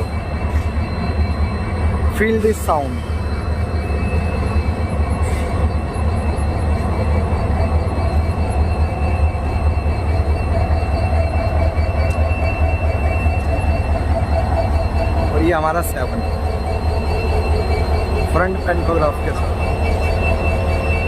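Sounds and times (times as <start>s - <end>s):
diesel locomotive engine humming: 0.0s - 21.0s
faint whining tones: 0.0s - 21.0s.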